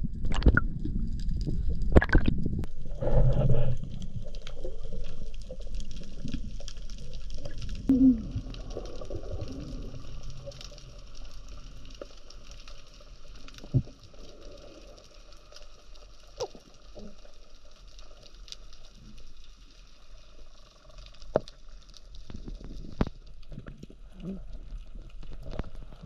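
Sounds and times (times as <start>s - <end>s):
muffled underwater rumble: 0.0s - 19.6s, 20.6s - 26.0s
faint clicking and crackling: 0.1s - 26.0s.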